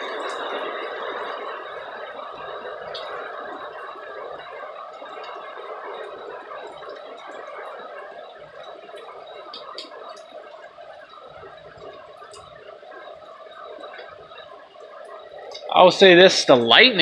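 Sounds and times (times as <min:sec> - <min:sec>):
rain pattering: 0:00.0 - 0:17.0
sharp drip-like clicks: 0:00.0 - 0:17.0.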